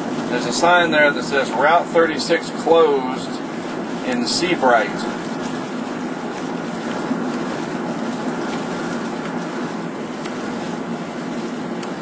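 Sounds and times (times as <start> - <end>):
tyres hissing on wet road: 0.2 - 12.0.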